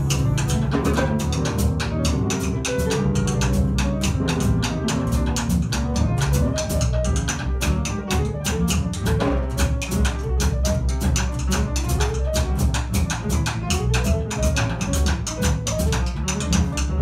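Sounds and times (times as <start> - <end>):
double bass notes: 0.0 - 17.0
drum kit: 0.0 - 17.0
jazz group playing: 0.0 - 17.0.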